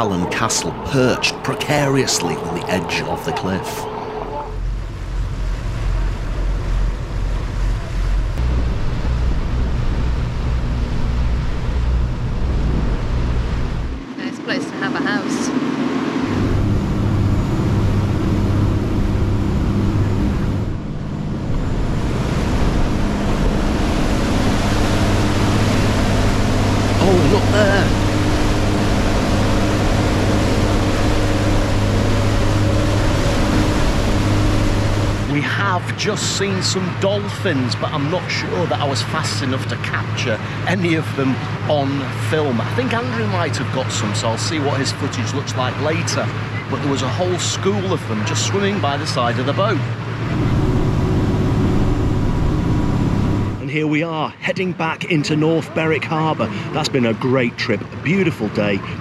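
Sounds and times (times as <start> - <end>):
boat engine humming: 0.0 - 59.0
water rushing along hull: 0.0 - 59.0.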